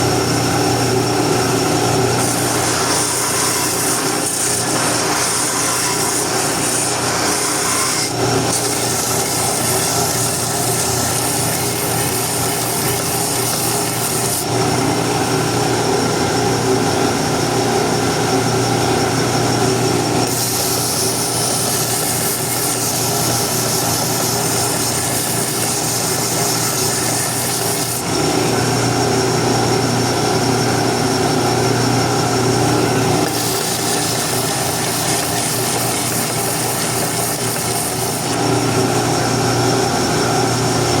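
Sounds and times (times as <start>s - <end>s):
power tool shaping wood: 0.0s - 41.0s.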